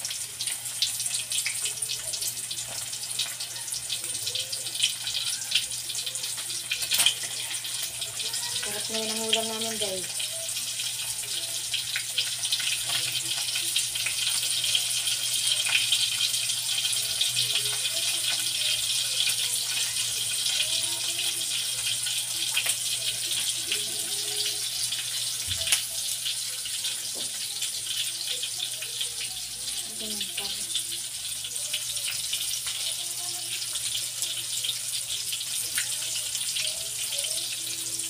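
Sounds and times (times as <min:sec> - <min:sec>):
chicken deep-frying in oil: 0:00.0 - 0:38.0
oil crackling and popping: 0:00.0 - 0:38.0.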